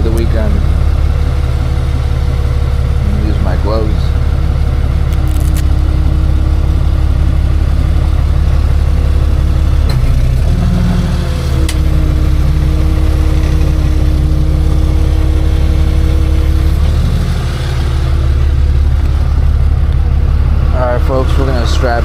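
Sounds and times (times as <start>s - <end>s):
tow truck engine idling: 0.0s - 22.0s.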